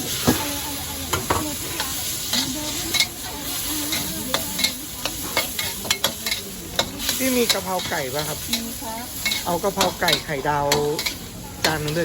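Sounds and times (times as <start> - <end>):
food sizzling in a wok: 0.0 - 12.0
metal spatula scraping wok: 0.0 - 12.0.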